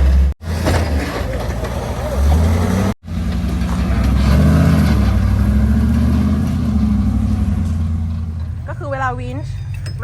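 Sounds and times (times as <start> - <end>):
truck engine revving: 0.0 - 8.6.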